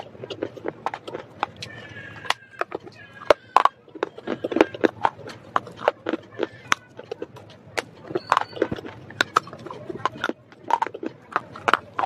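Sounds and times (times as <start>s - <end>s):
chewing with sharp crunches: 0.0s - 12.0s.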